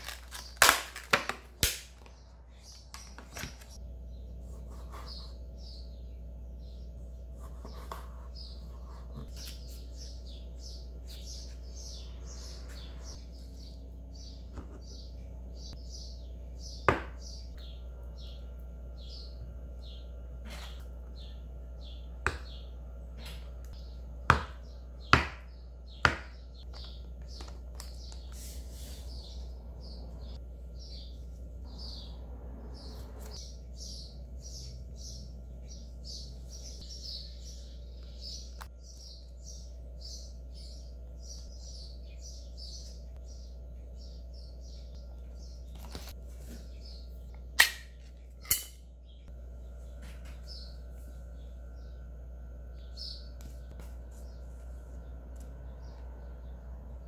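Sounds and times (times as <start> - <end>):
small birds chirping: 2.0 - 57.0.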